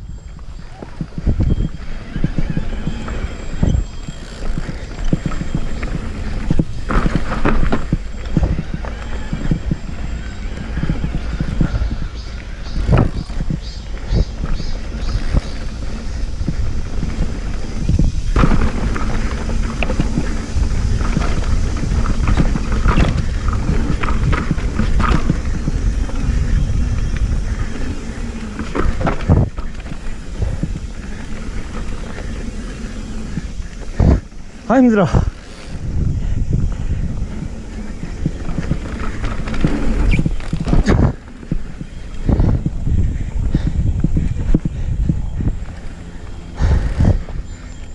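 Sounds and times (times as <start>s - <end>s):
wind noise on microphone: 0.0s - 47.9s
knocks and rattles on rocky trail: 0.1s - 47.9s.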